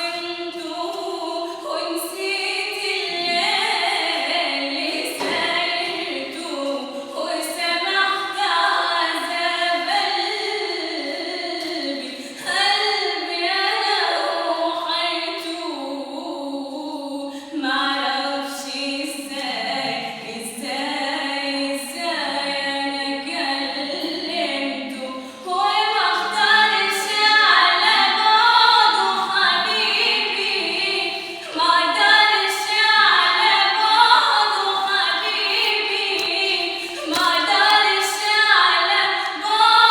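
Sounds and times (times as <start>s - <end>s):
woman singing unaccompanied: 0.0s - 39.9s.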